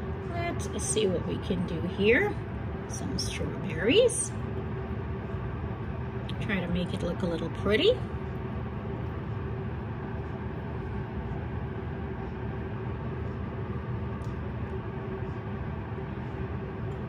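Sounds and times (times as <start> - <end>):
faint hum: 0.0 - 17.0
steady low rumble: 0.0 - 17.0.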